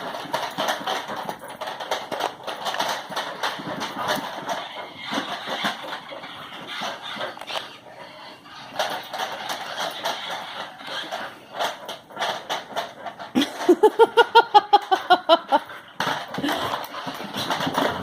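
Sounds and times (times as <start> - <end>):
toy car clattering on floor: 0.0 - 18.0.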